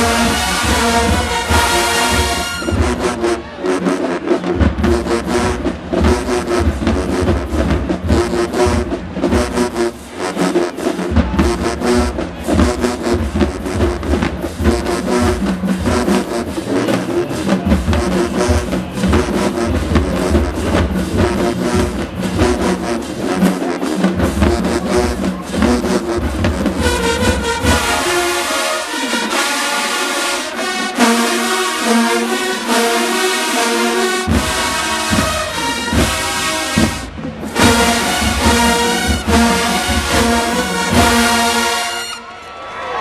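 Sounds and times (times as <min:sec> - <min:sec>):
brass section playing: 0:00.0 - 0:42.6
marching drum line: 0:00.0 - 0:42.7.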